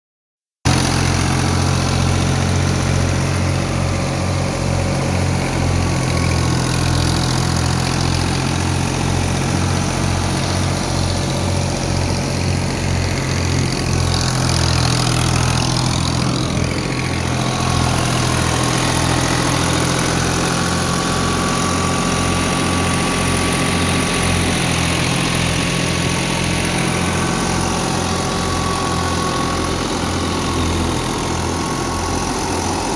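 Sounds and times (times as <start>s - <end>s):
tractor diesel engine running: 0.7s - 32.9s.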